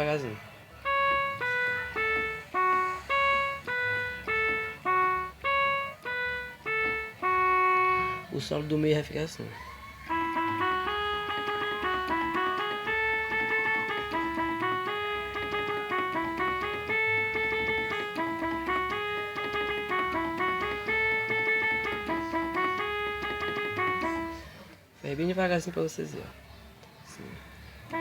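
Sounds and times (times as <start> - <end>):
electronic keyboard melody: 0.0 - 25.3.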